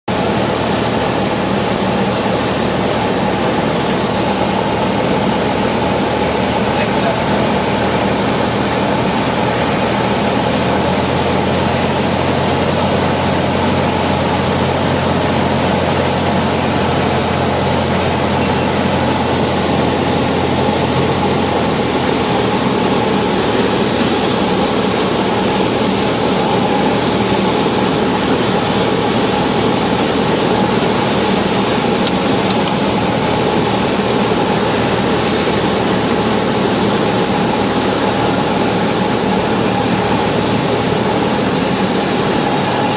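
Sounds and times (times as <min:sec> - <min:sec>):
propeller plane engine droning: 0:00.1 - 0:42.9.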